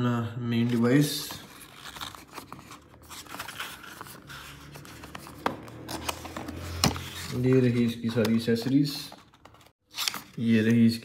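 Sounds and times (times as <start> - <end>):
packaging rustling and scraping: 0.6 - 10.6.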